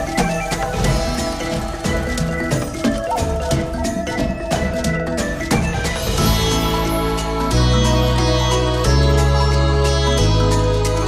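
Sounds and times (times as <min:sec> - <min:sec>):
instrumental background music with beat: 0:00.0 - 0:11.0.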